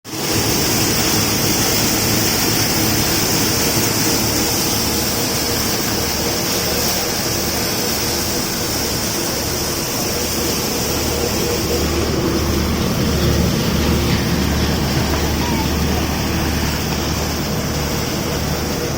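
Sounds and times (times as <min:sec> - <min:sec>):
low engine hum: 0:00.1 - 0:18.9
thresher drum rushing hiss: 0:00.1 - 0:18.9.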